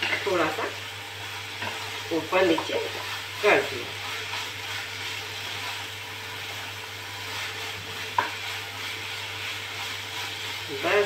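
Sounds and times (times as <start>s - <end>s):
noodles sizzling in oil: 0.0s - 11.0s.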